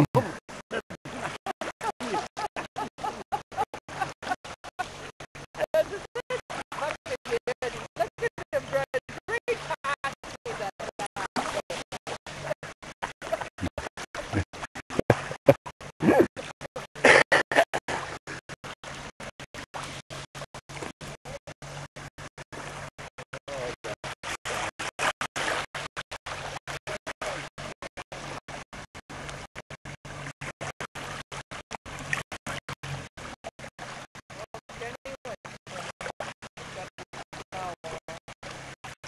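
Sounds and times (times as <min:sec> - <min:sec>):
outboard motor humming: 0:00.0 - 0:39.0.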